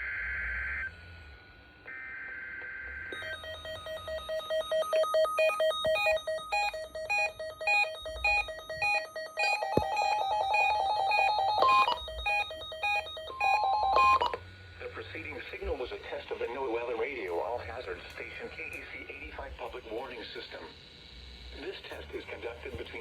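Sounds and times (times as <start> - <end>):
electronic square-wave beeps: 0.0 - 19.4.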